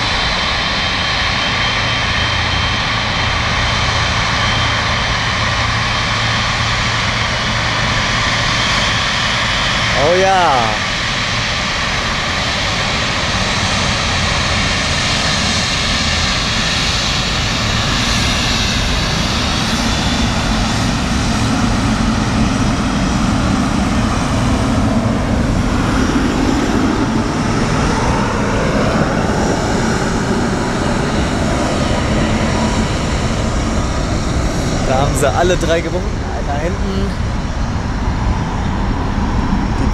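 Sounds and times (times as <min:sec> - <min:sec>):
jet engines taxiing: 0:00.0 - 0:39.9.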